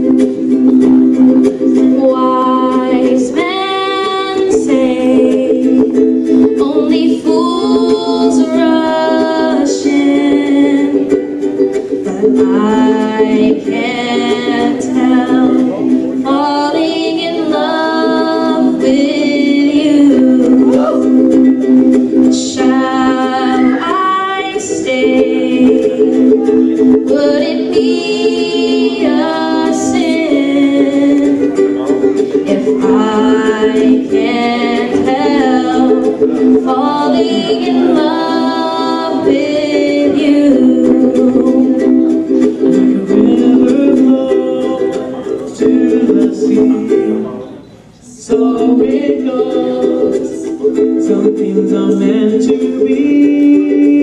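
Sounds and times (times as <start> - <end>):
ukulele chords: 0.0 - 54.0
woman singing into a microphone: 1.6 - 11.2, 12.0 - 21.4, 22.3 - 31.6, 32.3 - 47.3, 48.1 - 50.5.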